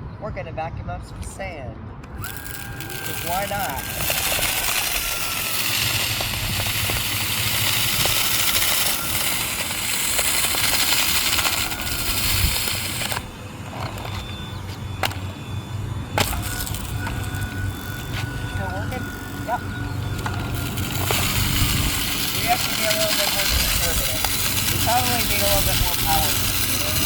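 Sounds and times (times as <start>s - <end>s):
faint steady whine: 1.3s - 27.0s
sharp clicks: 2.0s - 27.0s
stick vacuum hissing: 2.0s - 27.0s
sand grains crackling: 2.2s - 27.0s.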